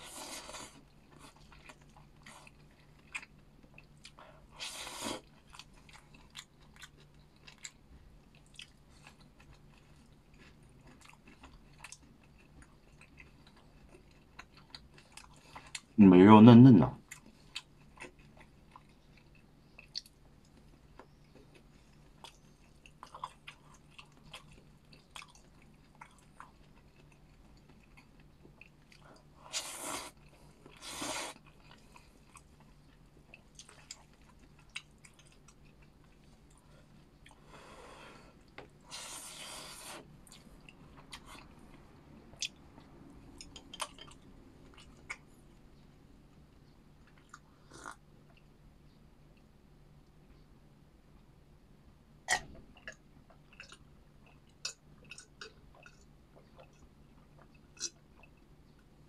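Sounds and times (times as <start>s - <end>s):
person chewing food: 0.0s - 16.0s, 17.0s - 48.6s, 52.3s - 59.0s.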